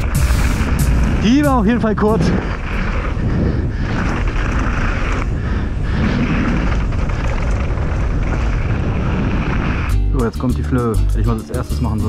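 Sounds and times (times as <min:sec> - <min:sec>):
bike tyres rumbling and rattling: 0:00.0 - 0:12.0
wind buffeting microphone: 0:00.0 - 0:12.0.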